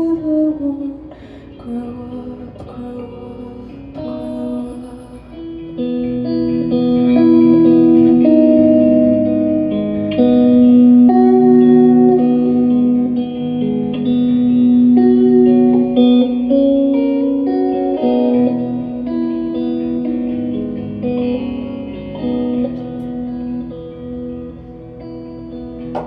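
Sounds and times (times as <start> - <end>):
live band instrumental guitar: 0.0 - 26.0.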